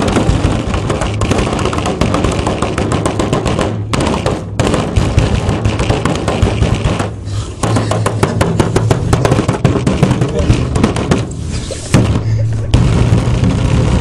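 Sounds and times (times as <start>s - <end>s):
hands drumming on tabletop: 0.0s - 13.9s.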